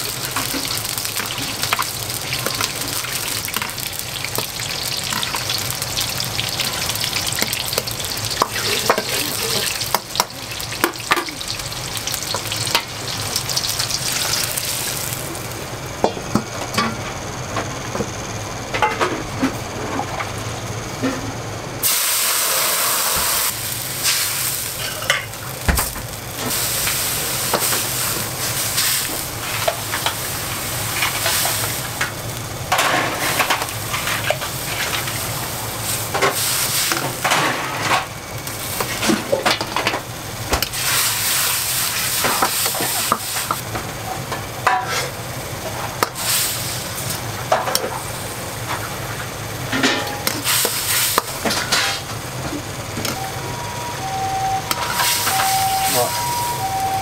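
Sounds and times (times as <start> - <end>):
food sizzling in wok: 0.0 - 16.6, 21.8 - 57.0.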